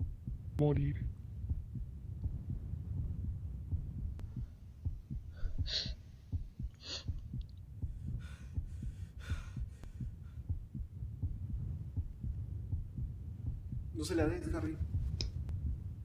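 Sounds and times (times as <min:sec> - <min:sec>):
low throbbing rumble: 0:00.0 - 0:16.0.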